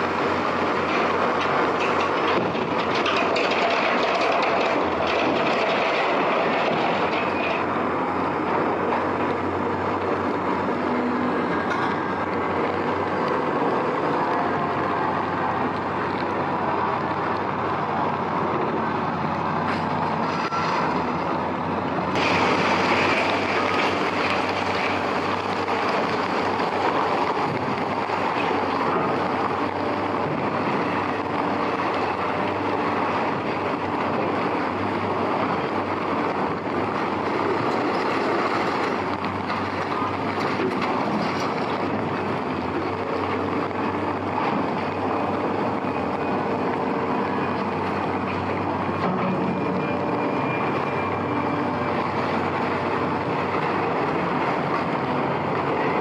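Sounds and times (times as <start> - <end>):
diesel engine running: 0.0 - 56.0
heavy rain: 0.0 - 56.0.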